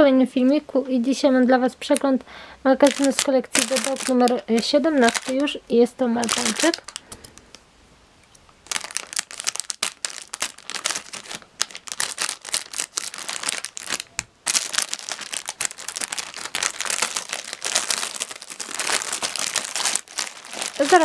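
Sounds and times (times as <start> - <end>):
plastic packaging crinkling: 2.8 - 7.6, 8.6 - 21.0.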